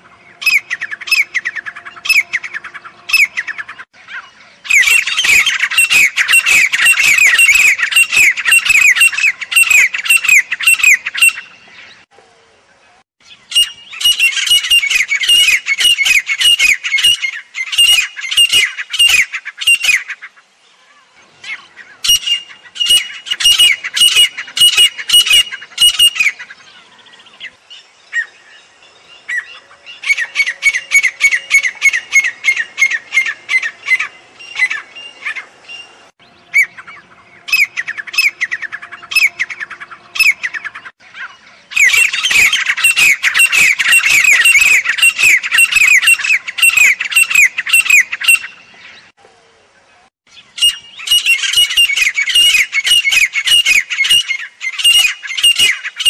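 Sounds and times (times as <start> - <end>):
francolin calling: 0.0 - 56.0.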